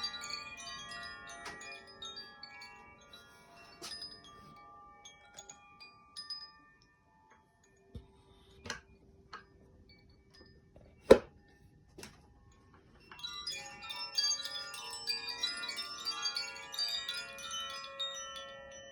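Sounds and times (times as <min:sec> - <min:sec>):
wind chime ringing: 0:00.0 - 0:18.9.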